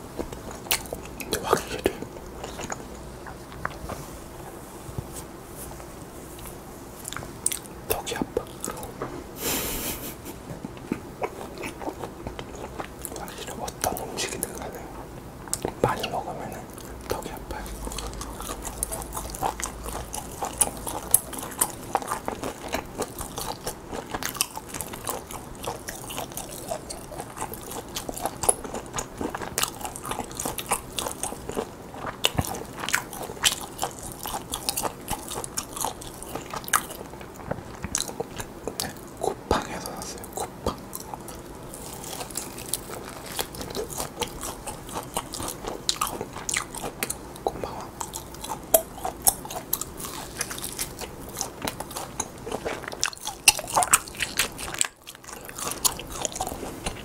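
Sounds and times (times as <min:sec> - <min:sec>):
chewing and biting meat: 0:00.2 - 0:03.9, 0:10.6 - 0:14.8, 0:15.5 - 0:57.0.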